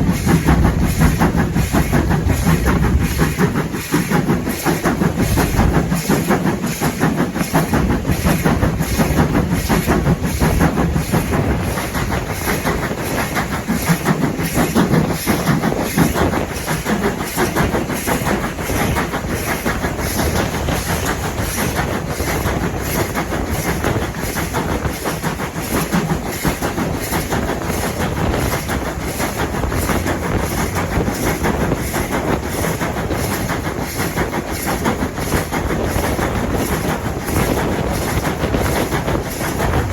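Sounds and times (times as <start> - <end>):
train rumbling: 0.0 - 39.9
wheels clickety-clack on rail joints: 0.0 - 39.9.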